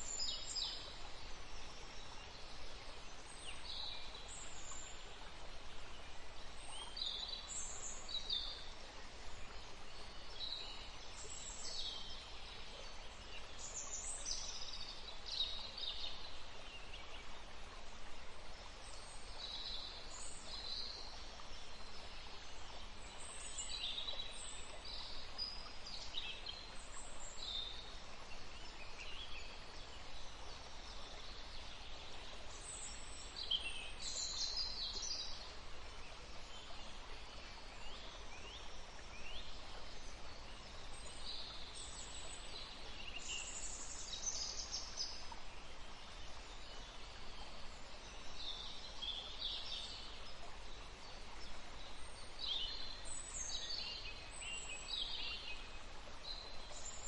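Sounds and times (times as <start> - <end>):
faint background hiss: 0.0 - 57.0.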